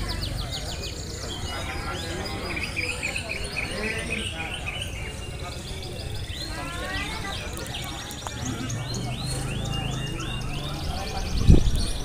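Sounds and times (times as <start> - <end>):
caged songbirds singing: 0.0 - 12.0.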